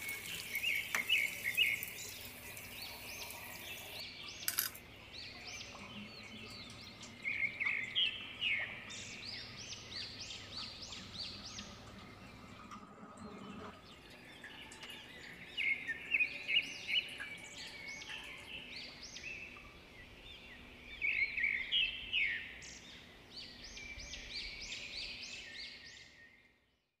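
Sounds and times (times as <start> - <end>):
small birds chirping: 0.0 - 26.5.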